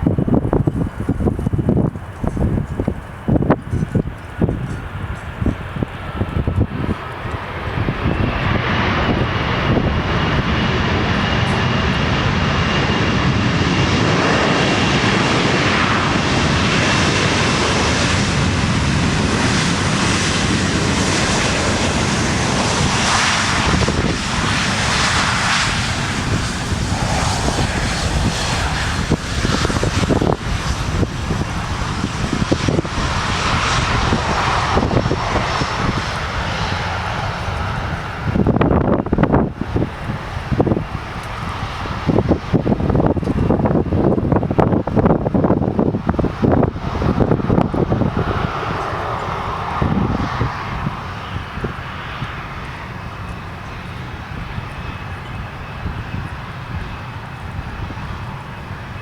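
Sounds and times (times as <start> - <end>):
airplane engine noise: 0.0 - 59.0
high engine whine: 0.0 - 59.0.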